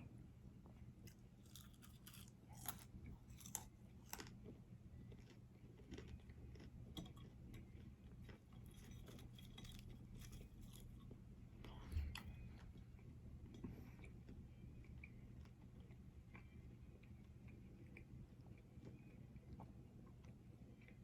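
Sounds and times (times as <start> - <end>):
person chewing food: 0.7 - 21.0.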